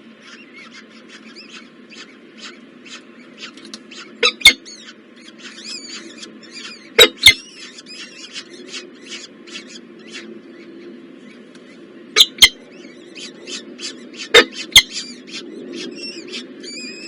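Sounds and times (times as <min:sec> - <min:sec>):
nestling birds cheeping: 0:00.0 - 0:17.0.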